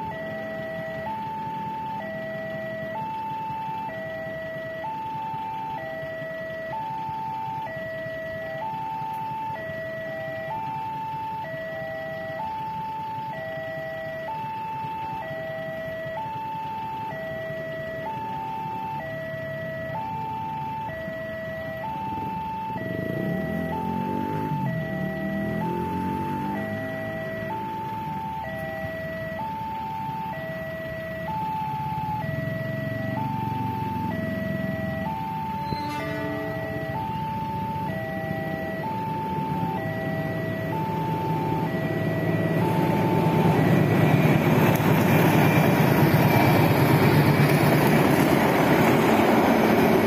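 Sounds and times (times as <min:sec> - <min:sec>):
two-tone crossing alarm: 0:00.0 - 0:50.0.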